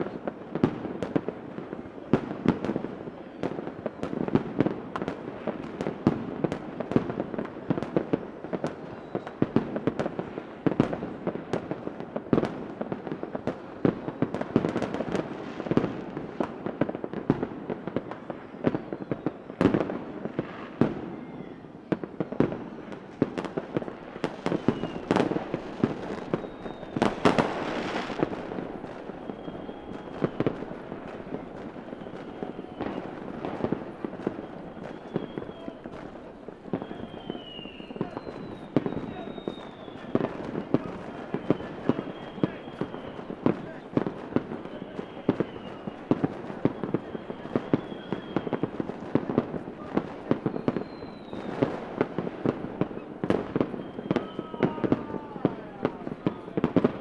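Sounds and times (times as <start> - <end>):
faint fireworks whistles: 0.0 - 57.0
fireworks bangs and pops: 0.0 - 57.0.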